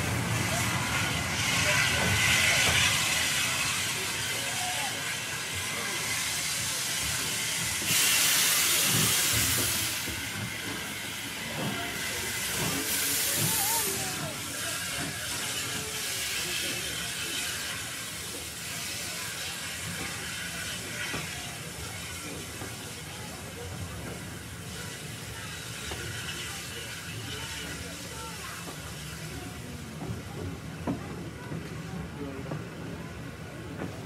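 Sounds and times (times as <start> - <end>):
loud burst of hissing steam: 0.0 - 30.9
background steam hiss: 0.0 - 34.0.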